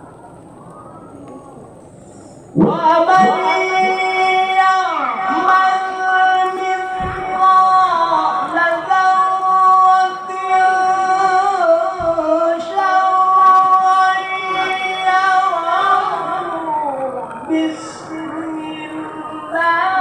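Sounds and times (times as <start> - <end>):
man reciting melodically: 2.6 - 20.0.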